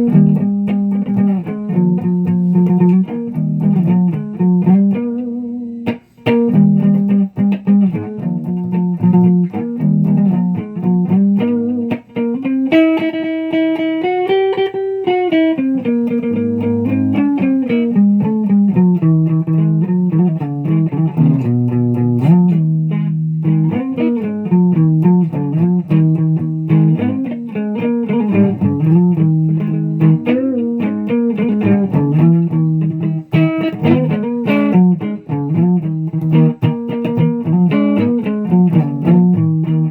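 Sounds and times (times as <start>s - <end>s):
plucked guitar playing: 0.0s - 39.9s.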